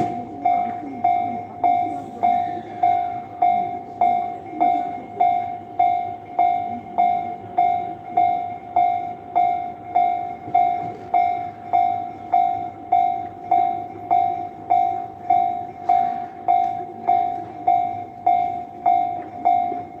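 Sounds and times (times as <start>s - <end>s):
level crossing bell ringing: 0.0s - 20.0s.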